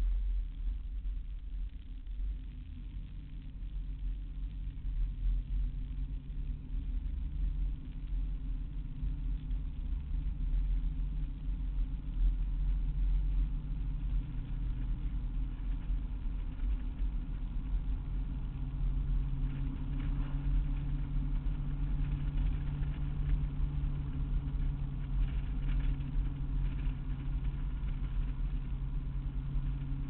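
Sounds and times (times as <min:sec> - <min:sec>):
car engine running steadily: 0:00.0 - 0:30.0.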